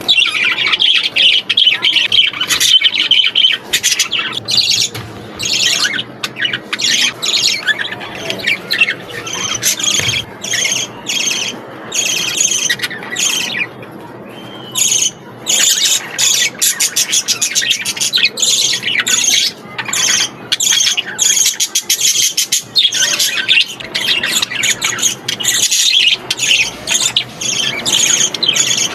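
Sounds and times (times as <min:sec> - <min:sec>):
budgerigars chirping and squawking: 0:00.0 - 0:28.9.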